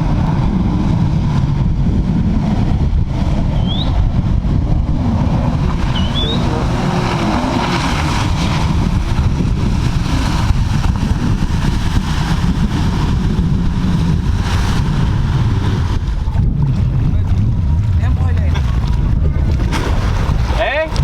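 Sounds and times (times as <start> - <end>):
jet ski engine: 0.0 - 21.0
rushing water: 0.0 - 21.0
wind buffeting microphone: 0.0 - 21.0.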